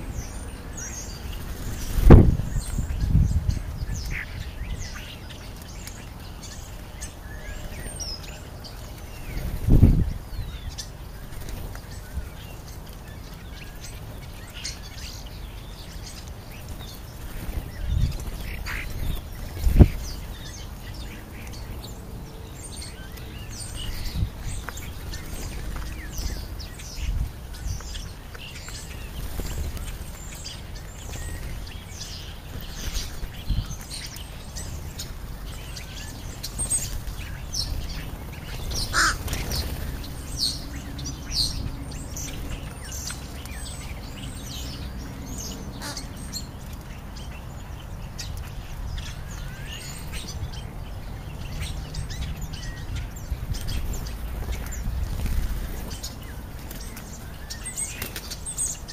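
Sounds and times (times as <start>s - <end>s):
starlings chirping and whistling: 0.0s - 58.9s.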